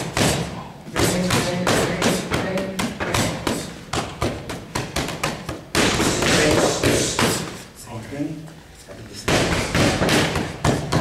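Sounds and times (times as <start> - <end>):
punches smacking focus mitts: 0.0 - 7.6, 9.3 - 11.0.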